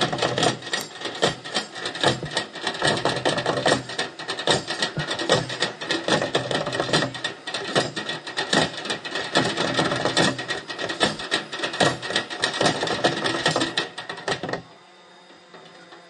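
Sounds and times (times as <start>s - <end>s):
buckets and drums beaten with sticks: 0.0s - 13.8s.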